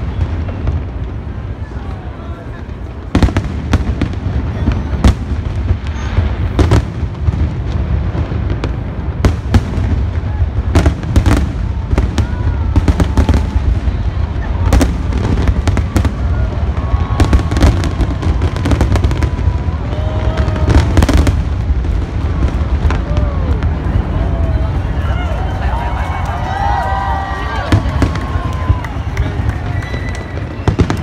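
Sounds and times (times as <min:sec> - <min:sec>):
continuous low rumble: 0:00.0 - 0:31.0
fireworks banging: 0:00.0 - 0:31.0.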